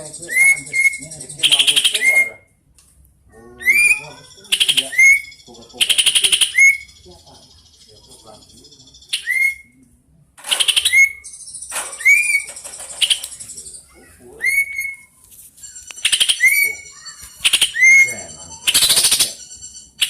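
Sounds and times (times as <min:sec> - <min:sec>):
bird singing whistles and trills: 0:00.0 - 0:02.4, 0:03.6 - 0:09.8, 0:10.6 - 0:13.7, 0:14.4 - 0:15.1, 0:15.8 - 0:20.0.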